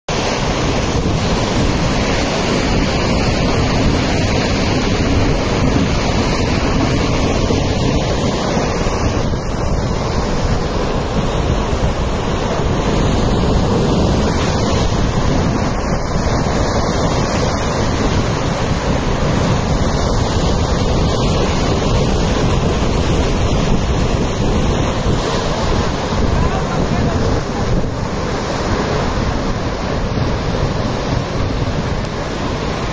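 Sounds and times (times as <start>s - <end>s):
river rushing: 0.1s - 32.9s
wind buffeting microphone: 0.1s - 32.9s.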